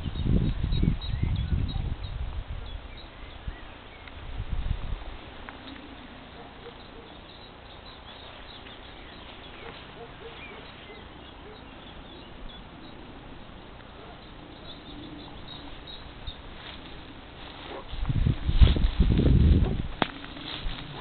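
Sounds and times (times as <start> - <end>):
birds chirping and trilling: 0.0 - 18.6
steady outdoor hiss: 0.0 - 21.0.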